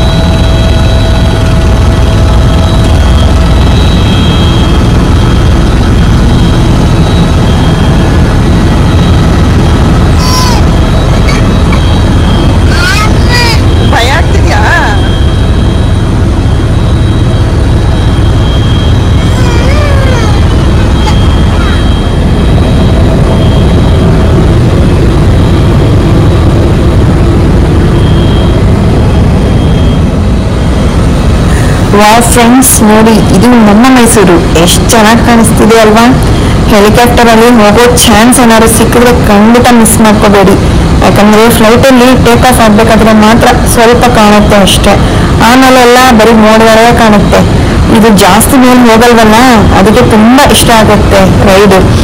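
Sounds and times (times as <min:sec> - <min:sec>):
faint high whine: 0:00.0 - 0:52.0
helicopter engine and rotor rumble: 0:00.0 - 0:52.0.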